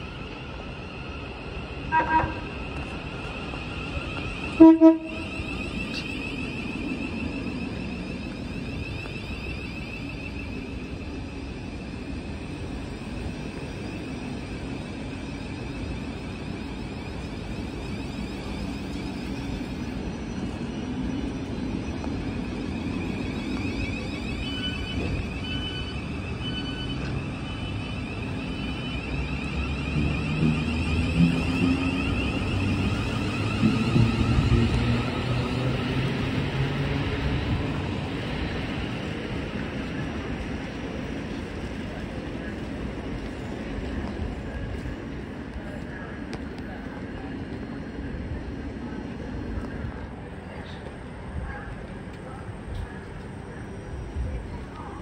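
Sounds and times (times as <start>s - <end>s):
electric train whine: 0.0s - 55.0s
train rumble: 0.0s - 55.0s.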